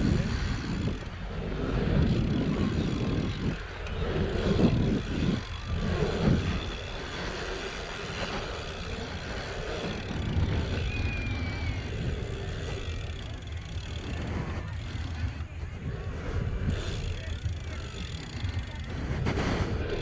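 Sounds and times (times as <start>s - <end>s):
bike tyres rolling: 0.0s - 20.0s
wind buffeting microphone: 0.0s - 20.0s.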